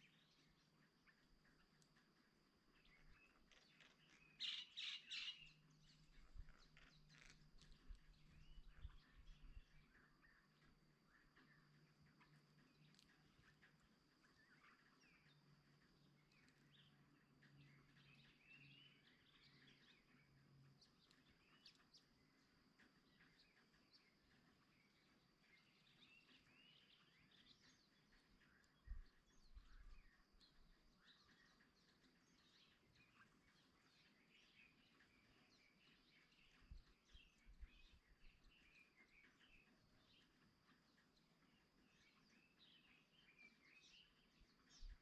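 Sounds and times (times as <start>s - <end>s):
faint high whine: 0.0s - 45.0s
songbirds chirping: 0.0s - 45.0s.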